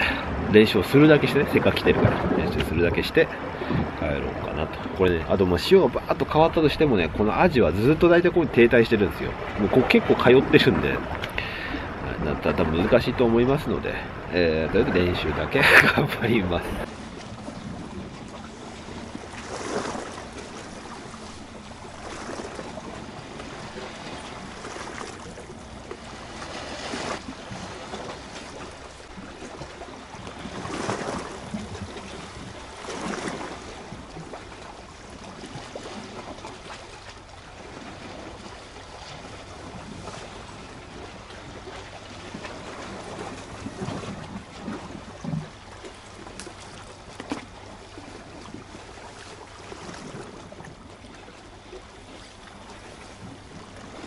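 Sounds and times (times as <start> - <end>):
waves lapping against rocks: 0.0 - 54.0.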